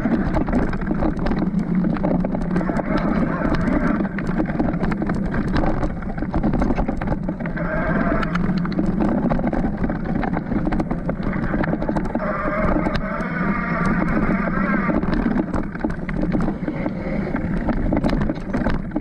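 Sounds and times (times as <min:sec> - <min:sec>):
bike rattling and clicking: 0:00.0 - 0:19.0
bike tyre riding noise: 0:00.0 - 0:19.0.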